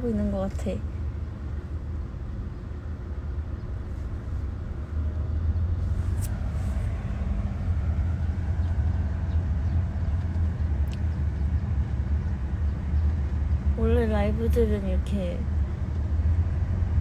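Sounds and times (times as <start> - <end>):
vehicle rumble from inside cabin: 0.0 - 17.0.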